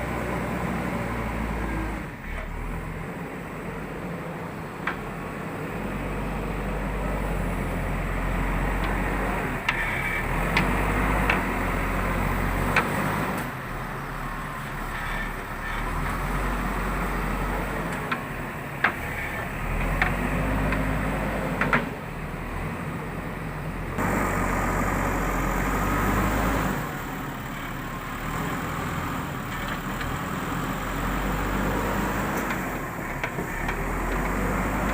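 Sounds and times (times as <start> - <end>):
diesel engine working under load: 0.0 - 34.9.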